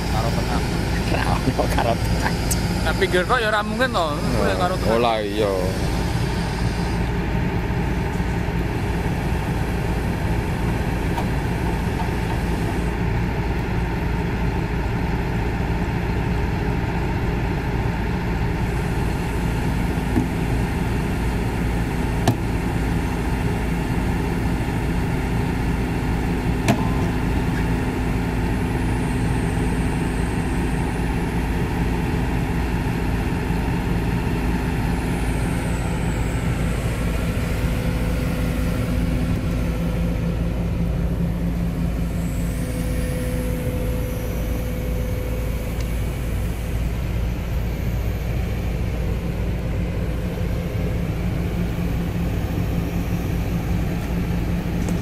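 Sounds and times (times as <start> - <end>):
steady hum: 0.0 - 16.2, 17.3 - 55.0
excavator diesel engine running: 0.0 - 55.0.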